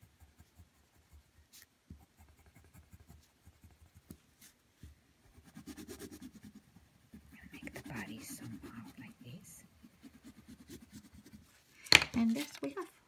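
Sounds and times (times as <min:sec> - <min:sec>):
pencil scratching on paper: 0:00.0 - 0:04.6, 0:05.2 - 0:11.7.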